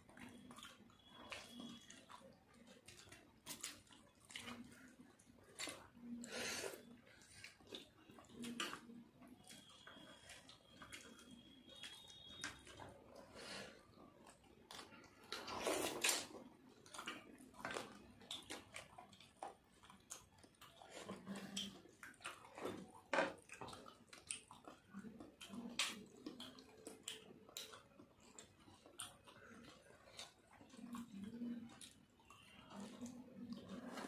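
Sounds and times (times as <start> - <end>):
chewing and mouth smacks: 0.0 - 34.0.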